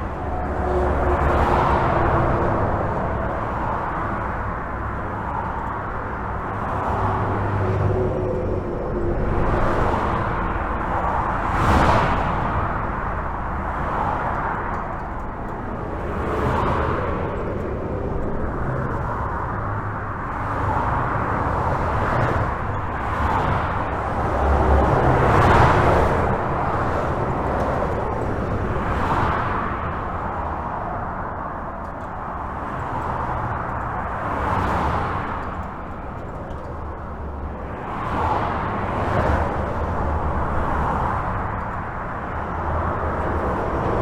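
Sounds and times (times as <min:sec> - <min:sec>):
highway traffic rushing: 0:00.0 - 0:44.0
vehicles passing: 0:00.0 - 0:44.0.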